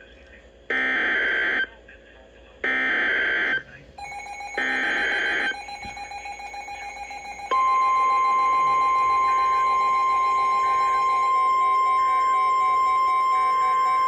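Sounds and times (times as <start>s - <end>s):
steady warning alarm tone: 0.7s - 1.7s, 2.6s - 14.0s.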